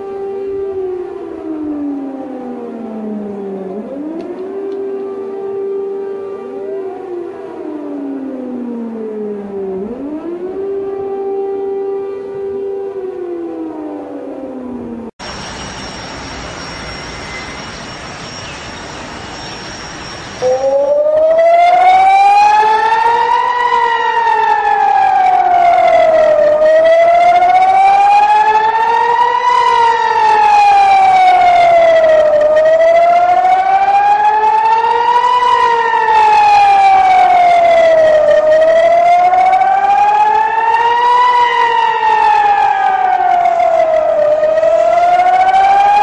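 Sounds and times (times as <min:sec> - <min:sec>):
air-raid siren wailing: 0:00.0 - 0:46.0.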